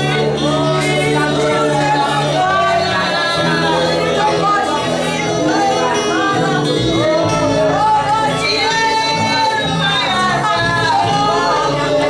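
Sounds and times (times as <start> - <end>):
instrumental accompaniment: 0.0 - 12.0
voices singing: 0.0 - 12.0.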